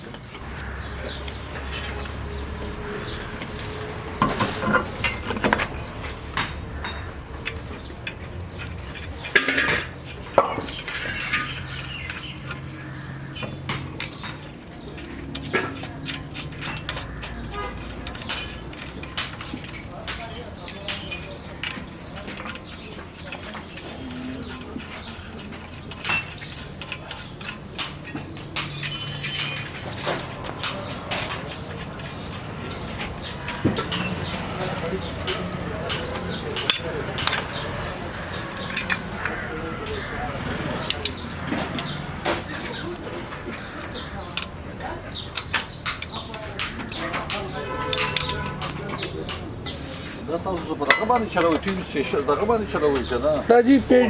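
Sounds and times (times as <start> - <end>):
metal tools clinking: 0.1 - 54.0.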